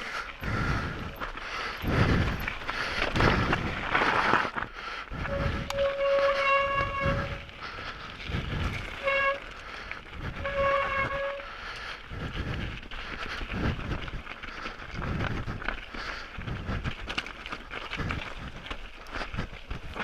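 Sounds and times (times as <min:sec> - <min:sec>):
heavy breathing into microphone: 0:00.0 - 0:17.1.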